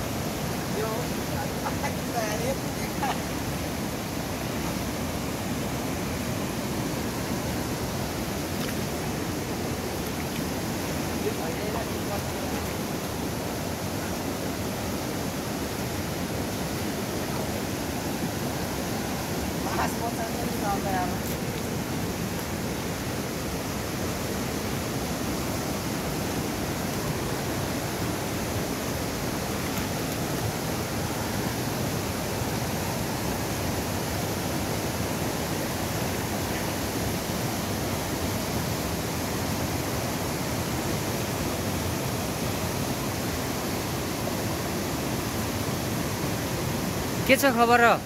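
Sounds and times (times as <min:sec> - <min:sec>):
river water rushing: 0:00.0 - 0:48.0.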